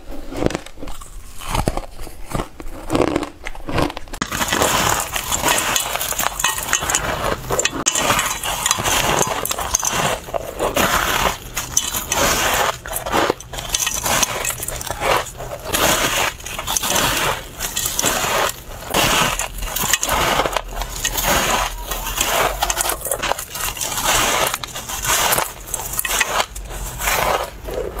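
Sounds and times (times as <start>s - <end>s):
person chewing crunchy ice: 0.0s - 28.0s.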